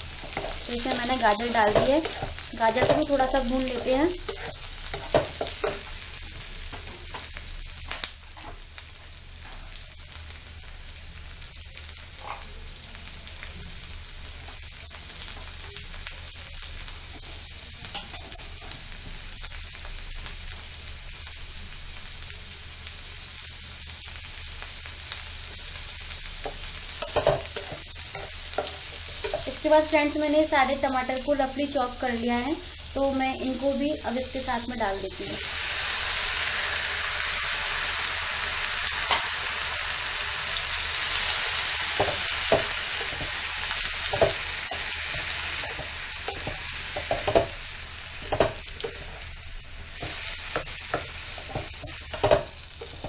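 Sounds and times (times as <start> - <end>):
vegetables sizzling in a pan: 0.0 - 53.0.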